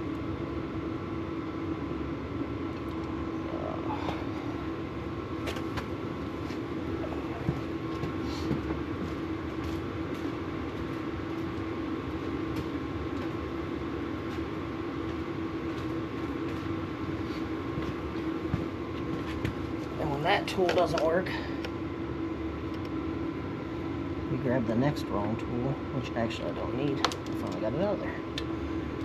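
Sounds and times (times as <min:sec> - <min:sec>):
mechanical drone with hum: 0:00.0 - 0:29.0.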